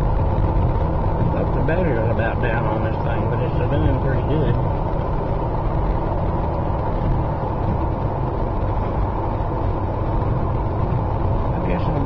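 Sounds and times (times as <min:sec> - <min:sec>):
tyres on wet road: 0:00.0 - 0:12.0
vehicle engine drone: 0:00.0 - 0:12.0.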